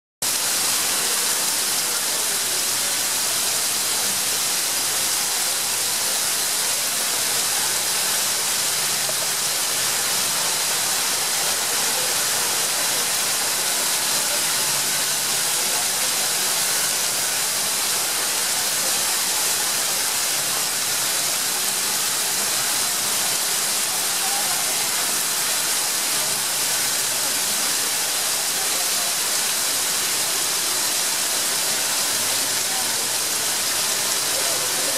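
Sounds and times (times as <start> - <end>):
heavy rain on pavement: 0.2 - 34.9.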